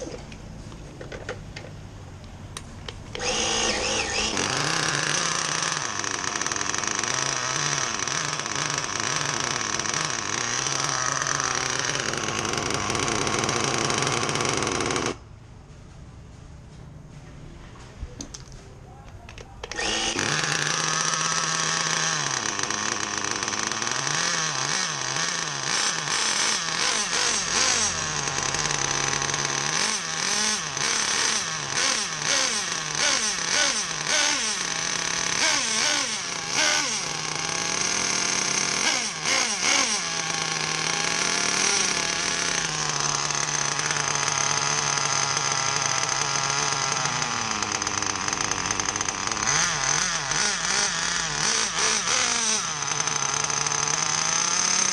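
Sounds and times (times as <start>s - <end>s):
rc car engine revving and idling: 0.0s - 0.4s, 2.5s - 15.3s, 19.6s - 54.9s.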